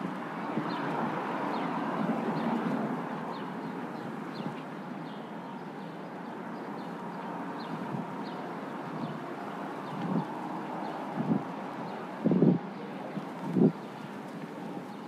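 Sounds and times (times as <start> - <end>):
traffic noise: 0.0 - 15.0.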